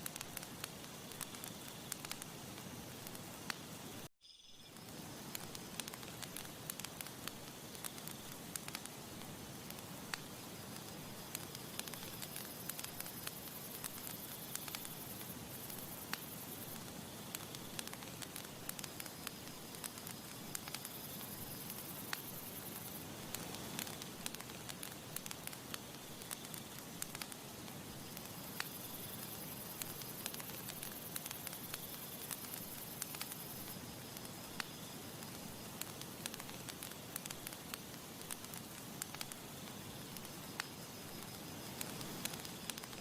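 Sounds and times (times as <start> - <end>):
campfire crackling: 0.0 - 4.1, 4.7 - 43.0.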